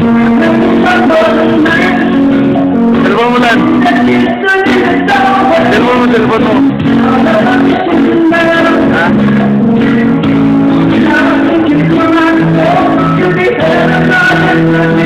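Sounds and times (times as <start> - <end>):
live band playing: 0.0 - 15.0
man singing into microphone: 0.0 - 15.0.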